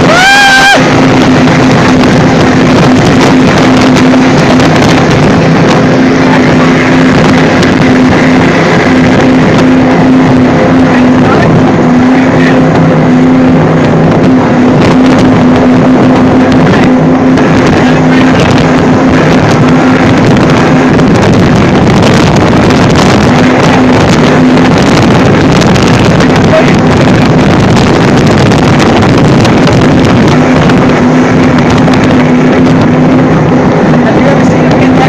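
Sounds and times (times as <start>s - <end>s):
speedboat engine running: 0.0s - 35.0s
wind and water rushing: 0.0s - 35.0s.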